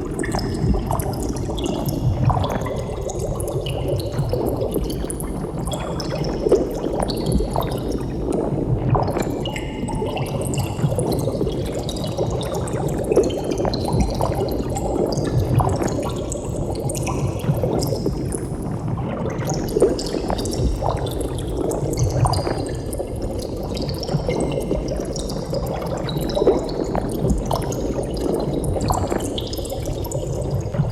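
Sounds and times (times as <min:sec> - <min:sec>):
underwater bubbling: 0:00.0 - 0:30.9.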